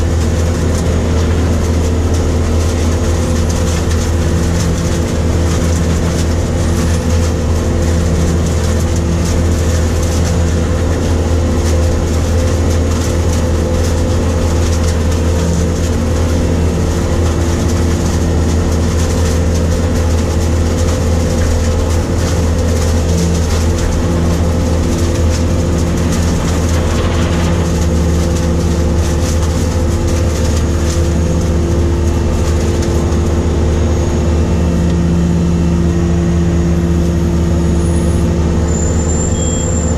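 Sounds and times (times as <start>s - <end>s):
harvester engine and machinery: 0.0s - 39.9s.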